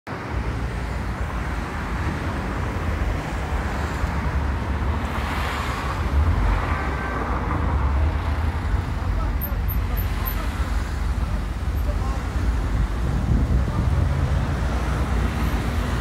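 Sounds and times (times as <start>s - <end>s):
city street traffic rumble: 0.1s - 16.0s.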